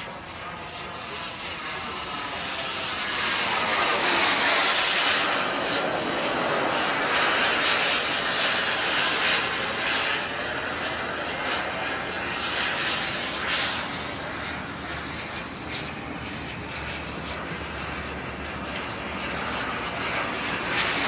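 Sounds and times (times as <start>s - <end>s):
model jet whine flying past: 0.0s - 21.0s.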